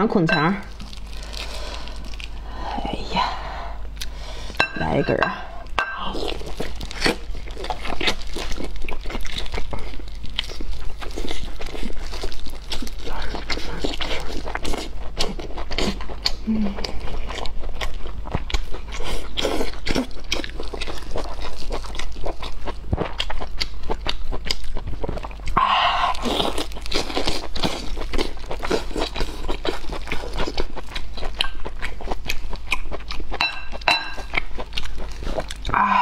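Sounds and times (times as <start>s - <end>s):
chewing and biting: 6.1s - 36.0s.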